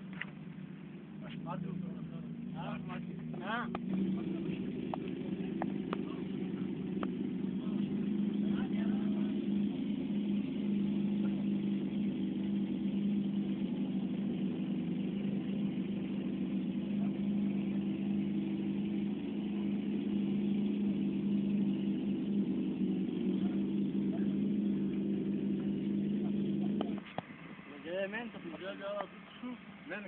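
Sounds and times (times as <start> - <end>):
machine engine droning: 0.0 - 30.0.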